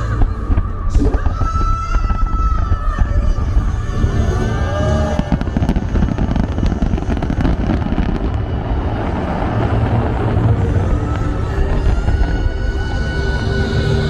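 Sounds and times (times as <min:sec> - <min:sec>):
fireworks bangs and crackles: 0:00.0 - 0:13.4
low rumble: 0:00.0 - 0:14.0
show music: 0:00.0 - 0:14.0.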